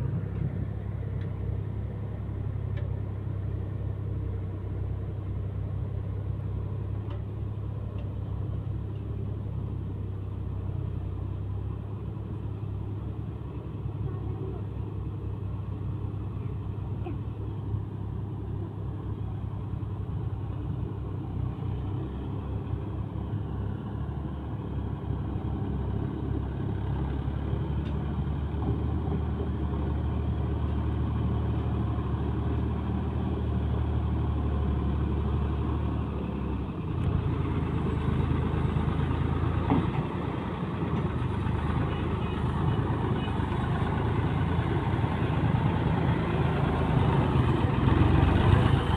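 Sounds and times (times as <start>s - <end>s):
tractor diesel engine hum: 0.0s - 48.9s.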